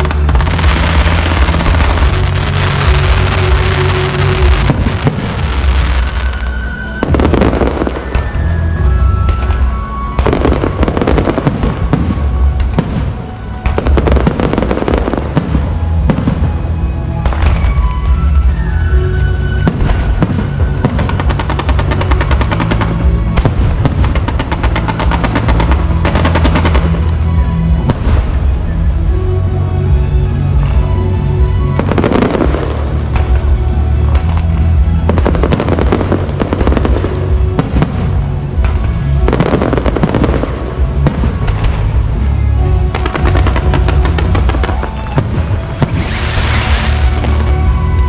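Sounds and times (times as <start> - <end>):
fireworks crackling and booming: 0.0 - 48.0
music playing: 0.0 - 48.0.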